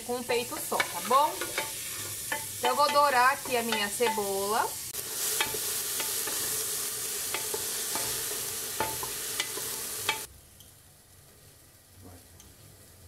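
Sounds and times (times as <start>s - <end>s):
onion sizzling in oil: 0.0s - 13.0s.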